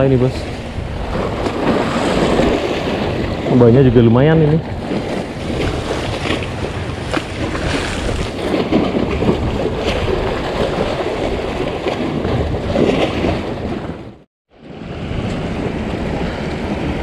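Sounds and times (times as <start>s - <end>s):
waves splashing against wall: 0.0s - 17.0s
wind buffeting microphone: 0.0s - 17.0s.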